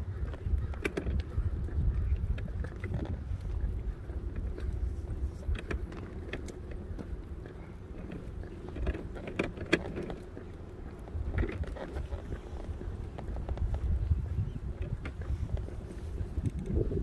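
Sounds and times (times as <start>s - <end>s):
wind on microphone: 0.0s - 7.8s, 11.0s - 17.0s
small clicks and rustles: 0.0s - 17.0s.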